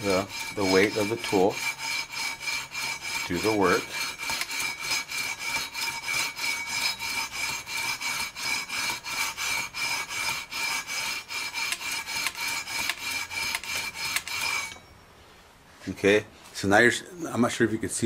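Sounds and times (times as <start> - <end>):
sandpaper scraping metal frets: 0.0 - 14.8.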